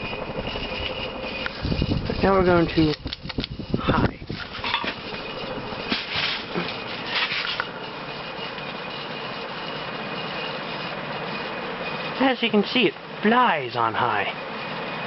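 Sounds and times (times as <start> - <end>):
ceiling fan air rush: 0.0 - 15.0.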